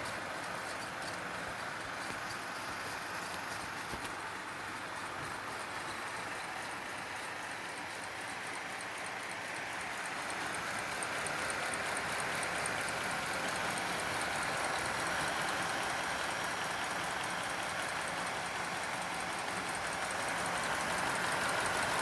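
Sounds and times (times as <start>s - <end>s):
film projector clattering: 0.0s - 22.0s.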